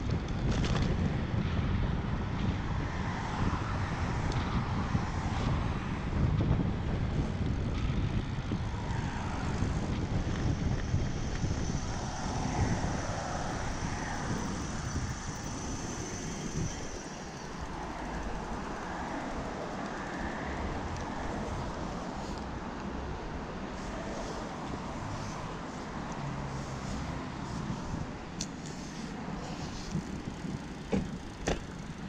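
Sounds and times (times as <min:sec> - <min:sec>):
road noise: 0:00.0 - 0:32.0
wind rumbling on microphone: 0:00.0 - 0:32.0.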